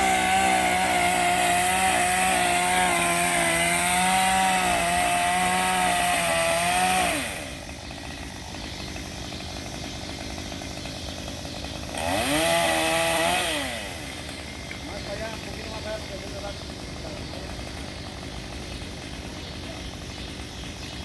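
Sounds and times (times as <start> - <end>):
chainsaw revving and idling: 0.0 - 21.0.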